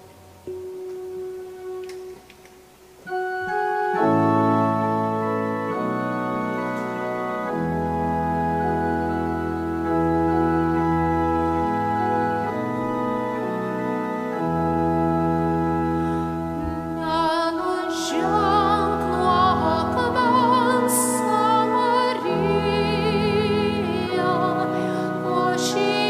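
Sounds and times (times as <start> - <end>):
church organ chords: 0.0 - 26.0
low organ bass line: 0.0 - 26.0.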